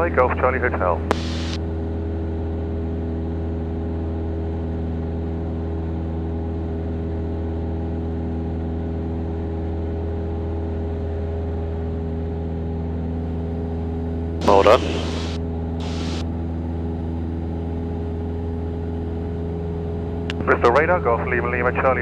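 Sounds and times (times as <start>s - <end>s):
airplane engine drone in cockpit: 0.0s - 22.0s.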